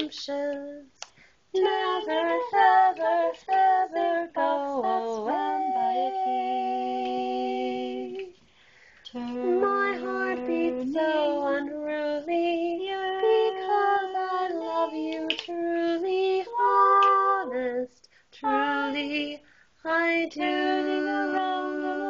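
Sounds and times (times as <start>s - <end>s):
women singing unaccompanied: 0.0s - 8.4s, 9.0s - 22.0s.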